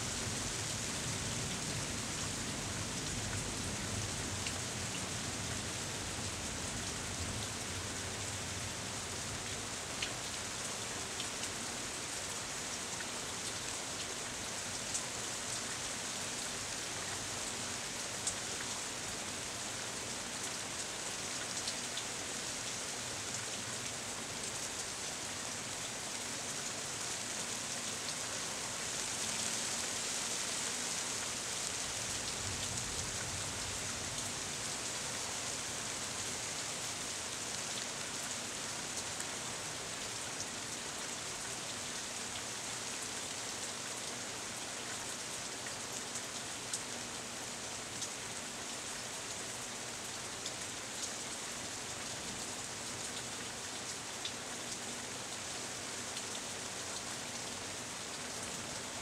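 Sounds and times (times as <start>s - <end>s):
rain on leafy trees: 0.0s - 59.0s.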